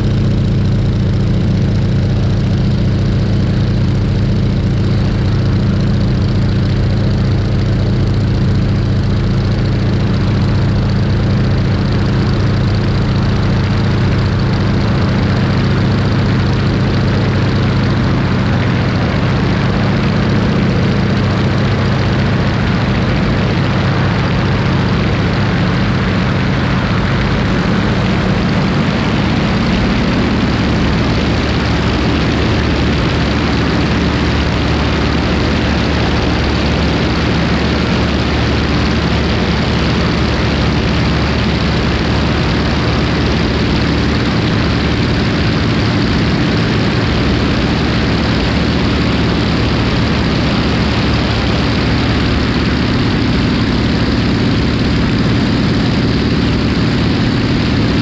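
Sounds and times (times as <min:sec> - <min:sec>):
radial engine and propeller: 0:00.0 - 0:58.0
rushing airflow: 0:04.1 - 0:58.0.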